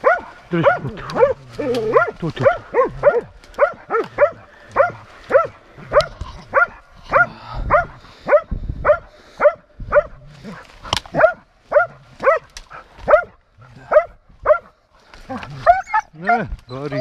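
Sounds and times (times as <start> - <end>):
dog barking: 0.0 - 10.2, 11.1 - 14.8.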